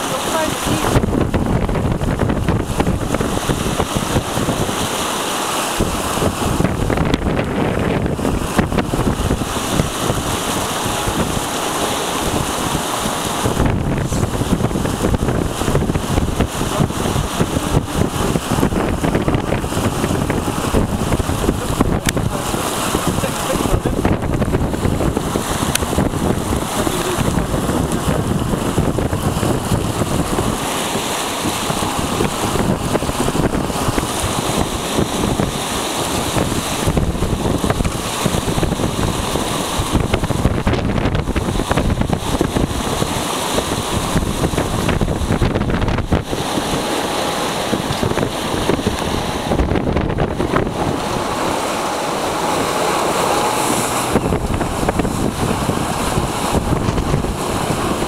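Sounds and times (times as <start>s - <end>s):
water rushing along hull: 0.0s - 58.0s
wind buffeting microphone: 0.0s - 58.0s.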